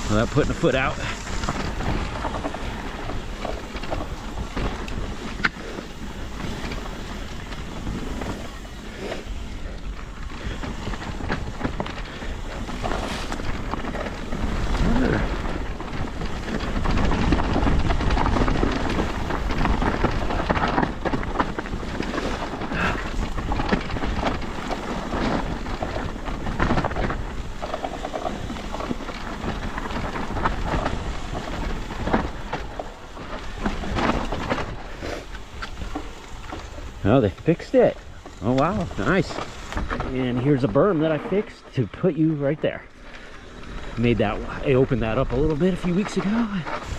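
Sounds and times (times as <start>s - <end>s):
bike knocking and rattling: 0.0s - 46.9s
tyres rolling on dirt: 0.0s - 46.9s
wind buffeting microphone: 0.0s - 46.9s.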